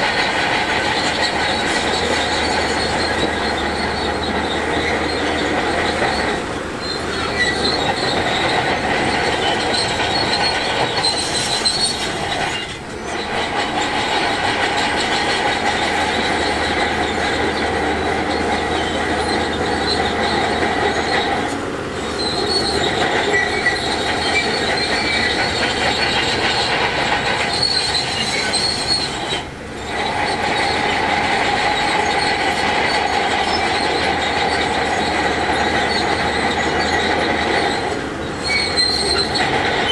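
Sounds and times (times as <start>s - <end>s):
diesel engines under load: 0.0s - 39.9s
high metallic track squeal: 0.0s - 39.9s.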